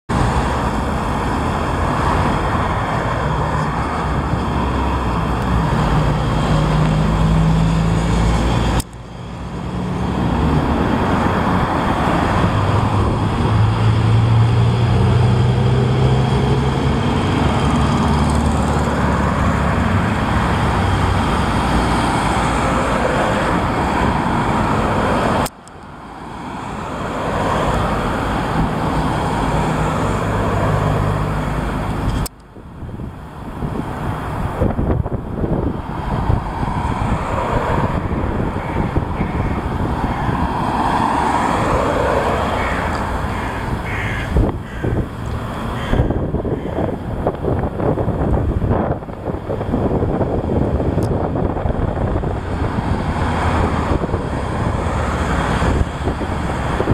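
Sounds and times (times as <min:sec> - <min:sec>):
cars and trucks passing: 0:00.1 - 0:56.9.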